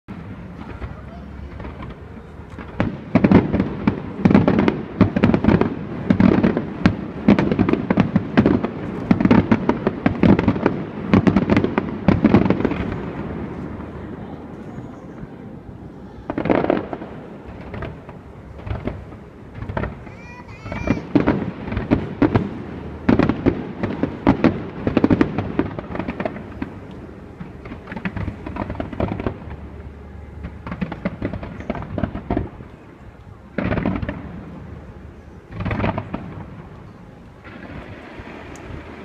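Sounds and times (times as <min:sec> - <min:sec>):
aerial fireworks bursting: 0:00.1 - 0:32.9, 0:33.5 - 0:34.8, 0:35.4 - 0:39.0
rumble: 0:00.1 - 0:39.0.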